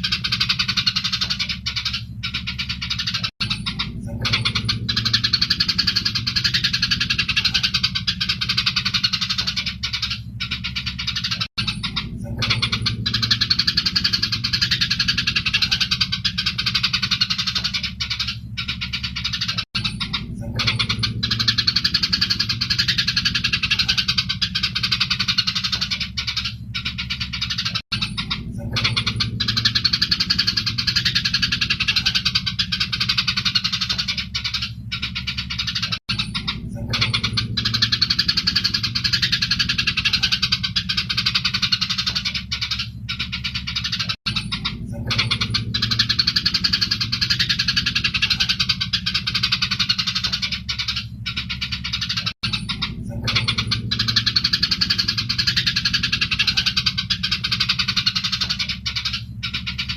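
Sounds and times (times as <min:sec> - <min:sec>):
sparrows chirping: 0:00.0 - 0:59.9
steady low hum: 0:00.0 - 0:59.9.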